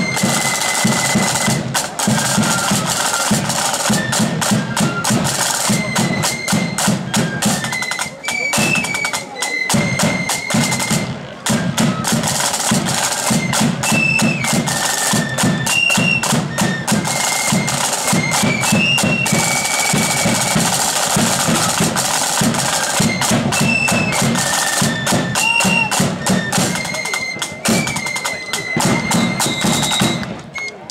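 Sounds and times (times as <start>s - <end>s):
high flute melody: 0.0s - 30.9s
side drums rattling: 0.0s - 30.9s.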